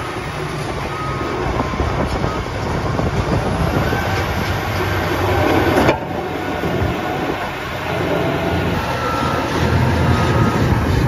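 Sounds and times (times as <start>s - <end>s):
bulldozer diesel engine droning: 0.0s - 11.0s
steel tracks clattering: 1.4s - 11.0s.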